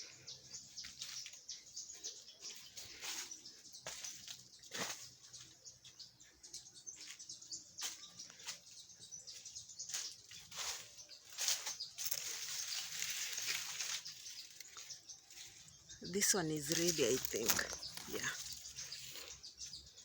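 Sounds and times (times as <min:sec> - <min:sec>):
leaves rustling and crackling: 0:00.0 - 0:05.6, 0:07.0 - 0:19.4.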